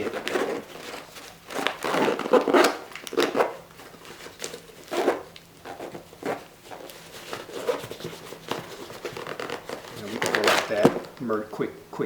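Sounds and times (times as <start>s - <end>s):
nylon pouch and plastic rustling: 0.0s - 11.3s.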